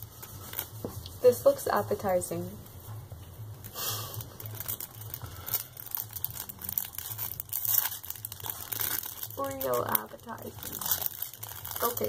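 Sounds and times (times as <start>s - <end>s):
foil being crumpled: 0.0s - 1.6s, 3.6s - 12.0s.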